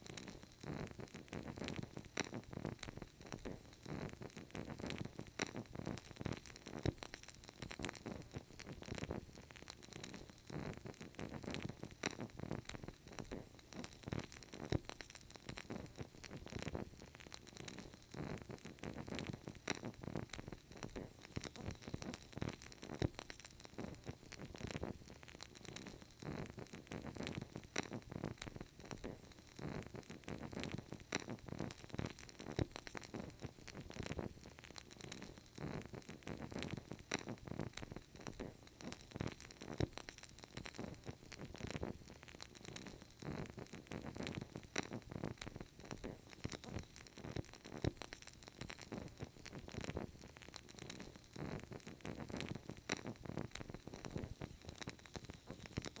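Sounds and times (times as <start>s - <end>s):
candle crackling: 0.0s - 56.0s.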